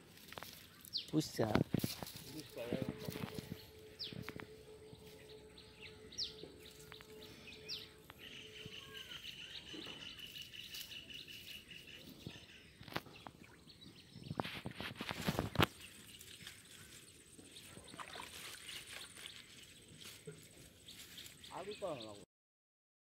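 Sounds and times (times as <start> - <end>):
bird chirps: 2.3 - 22.2.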